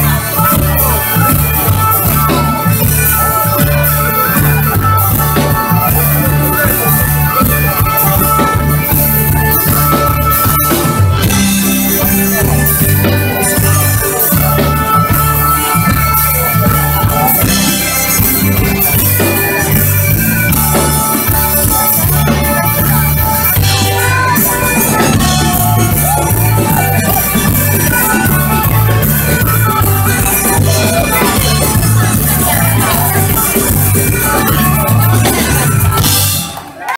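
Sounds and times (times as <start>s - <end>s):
button accordion melody: 0.0s - 36.4s
drum kit beat: 0.0s - 36.8s
bass: 0.0s - 36.9s
live folk band: 0.0s - 36.9s.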